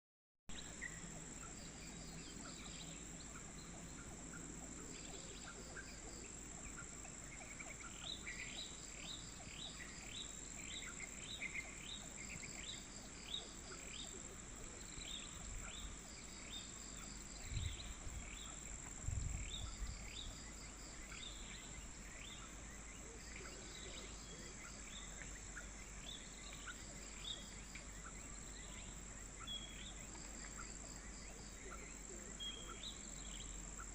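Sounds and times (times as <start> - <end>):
birds chirping: 0.5 - 33.9
pulsing insect trills: 0.5 - 33.9.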